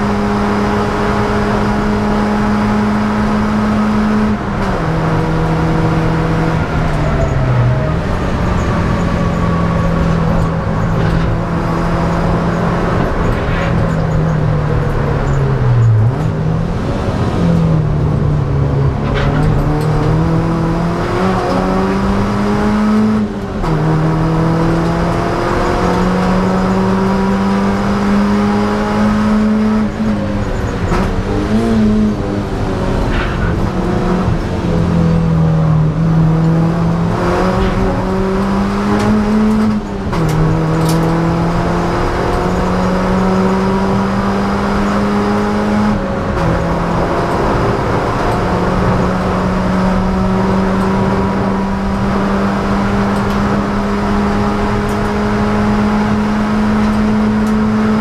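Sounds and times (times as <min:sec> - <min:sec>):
car engine at full throttle: 0:00.0 - 0:58.0.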